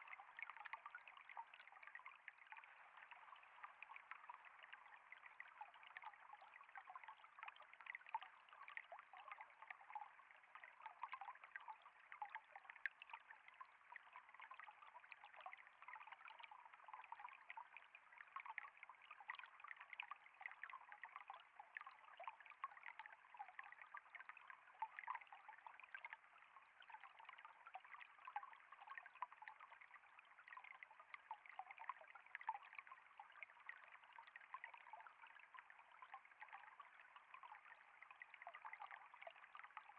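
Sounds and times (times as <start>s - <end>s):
trickling water with small splashes: 0.0s - 39.9s.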